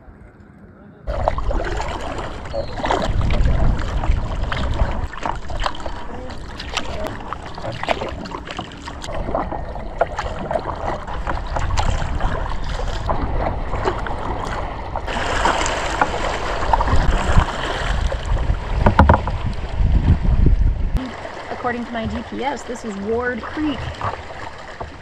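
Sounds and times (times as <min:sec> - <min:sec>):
water splashing off paddle: 0:01.1 - 0:20.4, 0:21.0 - 0:25.0
rush of water: 0:01.1 - 0:25.0
wind on microphone: 0:01.1 - 0:25.0.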